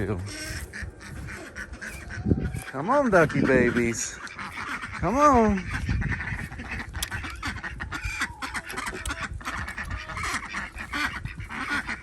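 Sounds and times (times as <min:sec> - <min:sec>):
chickens clucking: 0:00.0 - 0:12.0
ducks quacking: 0:00.0 - 0:12.0.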